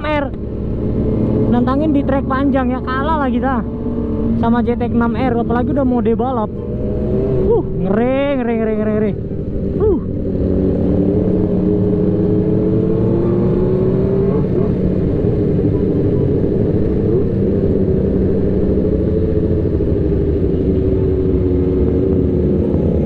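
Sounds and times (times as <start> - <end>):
motorcycle engine cruising: 0.0 - 23.0
wind rumbling on microphone: 0.0 - 23.0.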